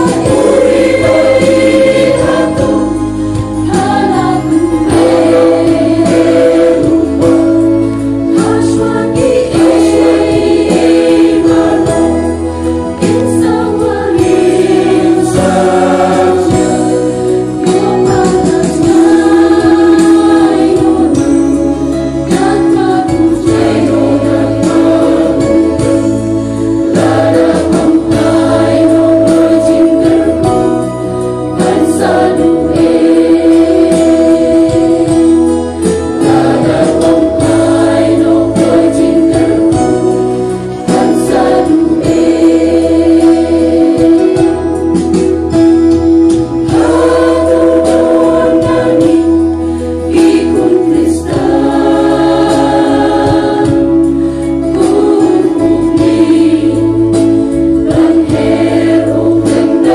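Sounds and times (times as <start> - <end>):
mixed choir singing gospel: 0.0 - 59.9.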